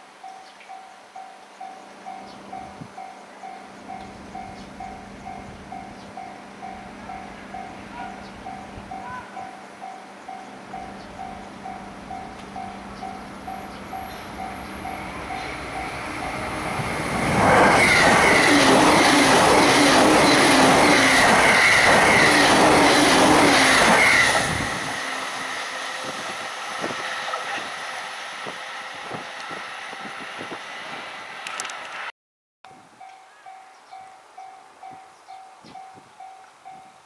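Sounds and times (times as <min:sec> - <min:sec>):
level-crossing warning bell: 0:00.0 - 0:26.9, 0:32.7 - 0:37.0
train passing at high speed: 0:00.7 - 0:32.1.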